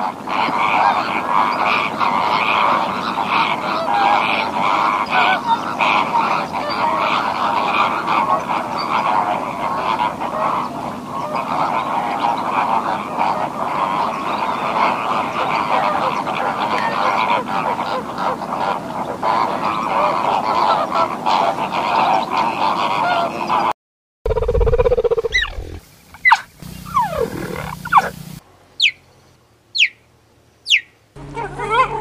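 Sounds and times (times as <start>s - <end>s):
flamingos honking and chattering: 0.0s - 23.7s, 24.3s - 29.0s, 30.7s - 32.0s.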